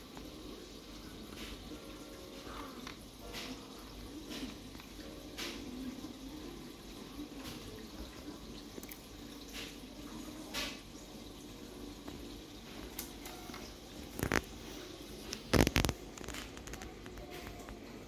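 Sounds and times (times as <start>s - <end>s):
aquarium water trickling: 0.0s - 18.0s.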